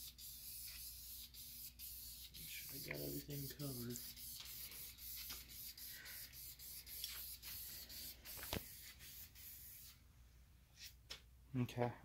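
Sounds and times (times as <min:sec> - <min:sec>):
aerosol spray can hissing: 0:00.0 - 0:10.0.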